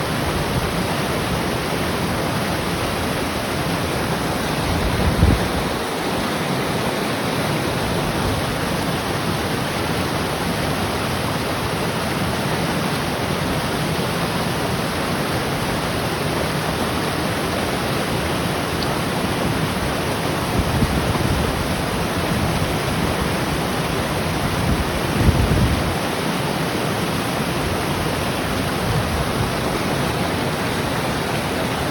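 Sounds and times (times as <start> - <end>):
river rushing over rocks: 0.0 - 31.9.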